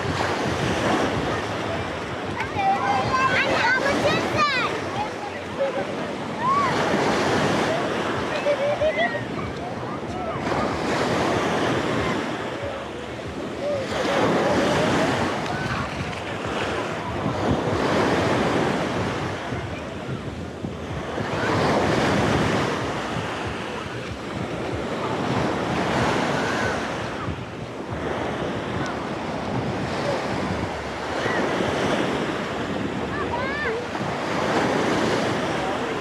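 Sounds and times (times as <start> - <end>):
sea waves breaking on beach: 0.0 - 36.0
wind buffeting microphone: 0.0 - 36.0.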